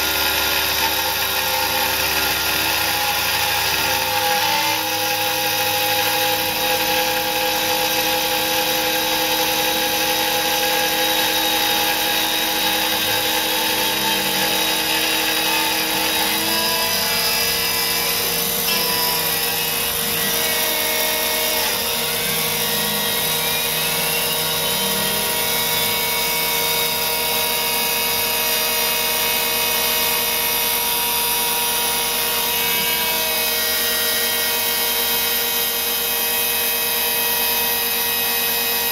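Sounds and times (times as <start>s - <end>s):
milling machine cutting metal whine: 0.0s - 38.9s.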